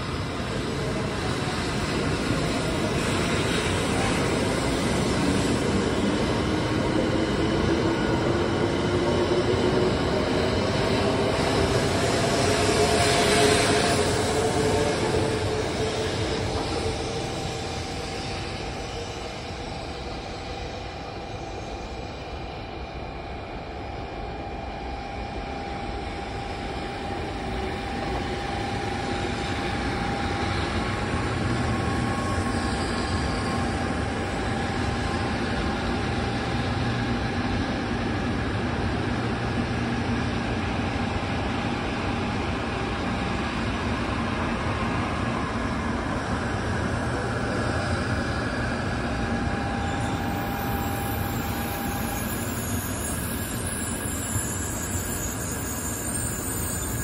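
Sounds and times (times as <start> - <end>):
train wheels rumbling on rail: 0.0 - 57.0
train whine: 0.0 - 57.0.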